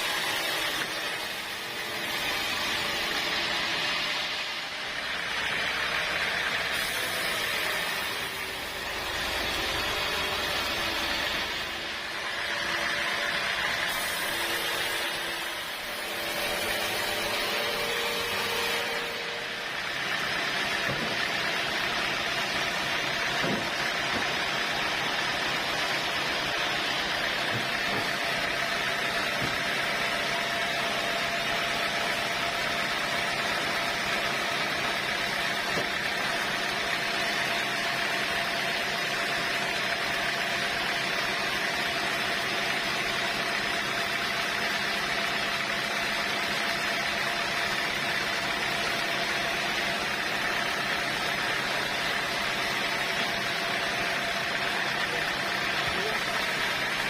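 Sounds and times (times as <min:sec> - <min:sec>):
sawmill machinery humming and whining: 0:00.0 - 0:57.0.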